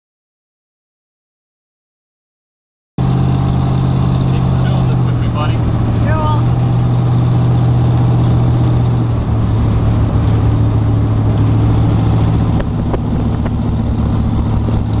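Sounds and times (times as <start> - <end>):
car engine droning: 3.0 - 15.0.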